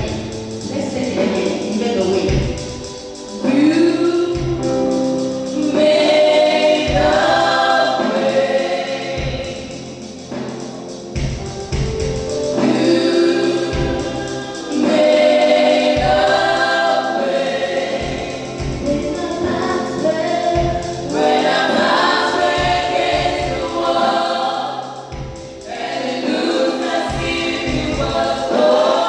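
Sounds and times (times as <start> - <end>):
choir and congregation singing hymn: 0.0 - 29.0
steady drum beat: 0.0 - 29.0.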